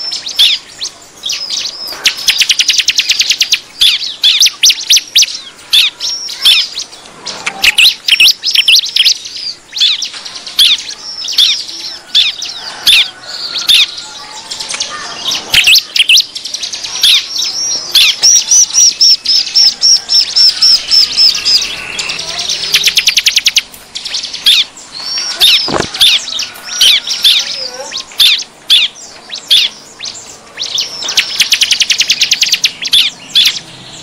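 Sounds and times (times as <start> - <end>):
bird chattering calls: 0.0 - 34.0.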